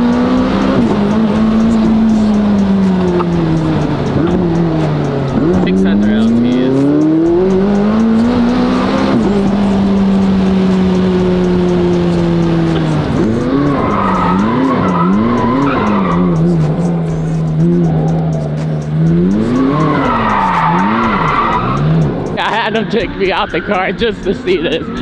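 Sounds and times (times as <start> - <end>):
car engine revving: 0.0 - 25.0
tires squealing: 0.0 - 25.0.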